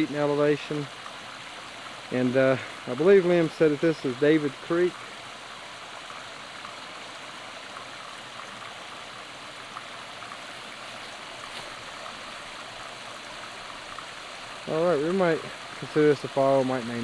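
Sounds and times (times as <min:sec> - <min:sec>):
creek splashing over cascade: 0:00.0 - 0:17.0.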